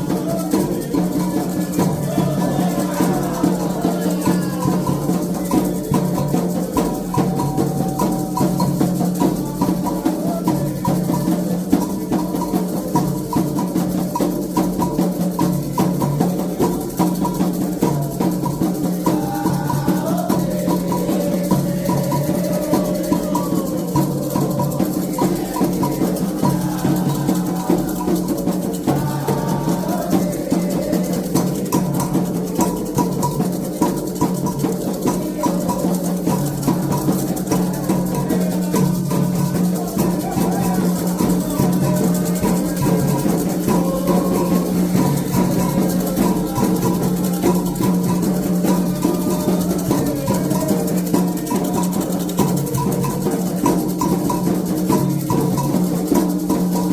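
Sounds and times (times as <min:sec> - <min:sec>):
hand drums driving rhythm: 0:00.0 - 0:56.9.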